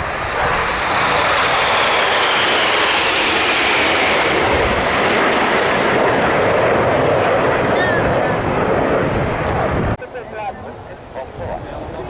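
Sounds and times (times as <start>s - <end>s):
jets flying past low: 0.0s - 12.0s.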